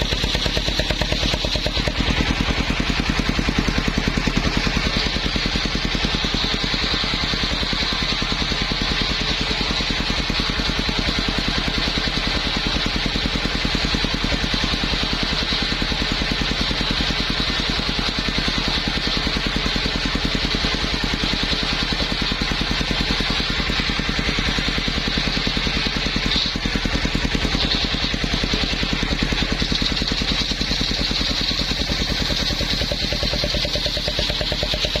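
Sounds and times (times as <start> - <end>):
engine pulsing: 0.0 - 35.0.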